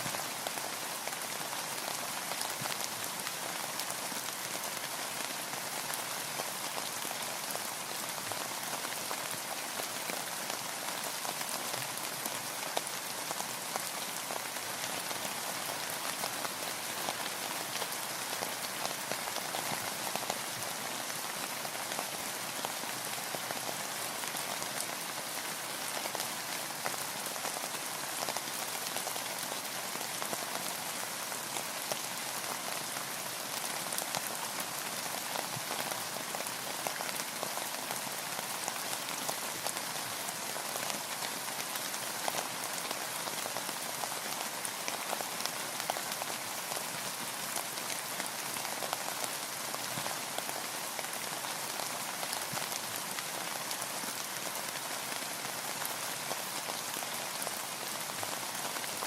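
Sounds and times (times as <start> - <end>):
steady rain with dripping patter: 0.0 - 59.0.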